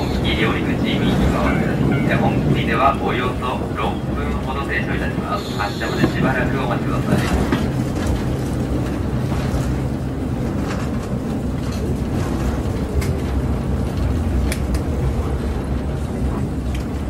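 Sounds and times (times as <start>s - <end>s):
diesel railcar drone: 0.0s - 17.0s.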